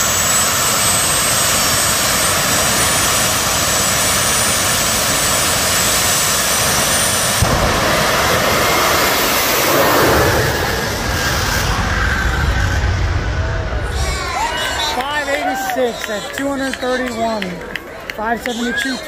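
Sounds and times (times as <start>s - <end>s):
deep engine blast: 0.0s - 17.0s
jet engines whining: 0.0s - 19.0s.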